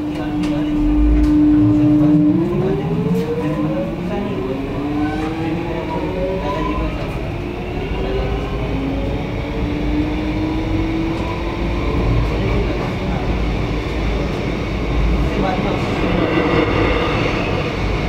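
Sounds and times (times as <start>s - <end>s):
train traction motors whining: 0.0s - 18.0s
wheels rumbling on rails: 0.0s - 18.0s.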